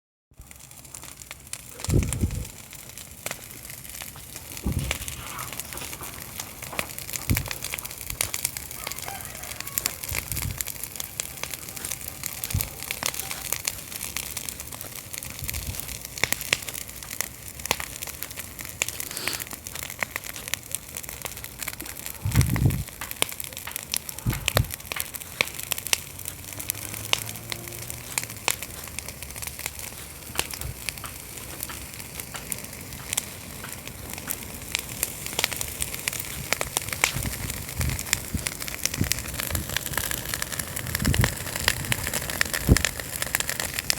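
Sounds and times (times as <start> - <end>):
campfire crackling and popping: 0.4 - 43.9
fire hiss: 0.6 - 23.2, 23.8 - 43.9.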